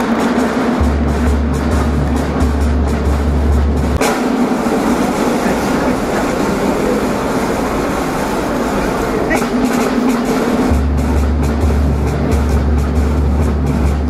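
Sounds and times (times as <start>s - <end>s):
large audience rumbling in arena: 0.0s - 14.0s
music with deep bass: 0.0s - 14.0s.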